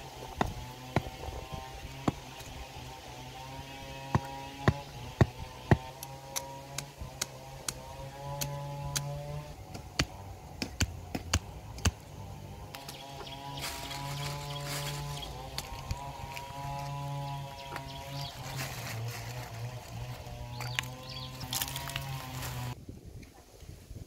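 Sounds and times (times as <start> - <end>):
distant motor engine hum: 0.0 - 22.8.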